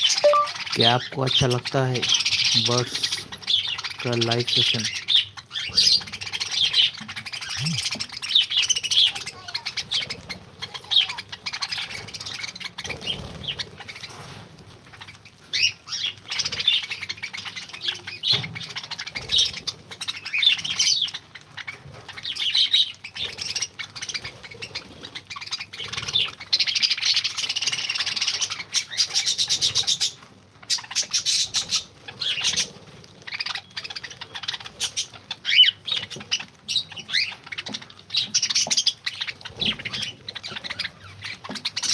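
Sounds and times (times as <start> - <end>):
birds chirping and calling: 0.0 - 41.9.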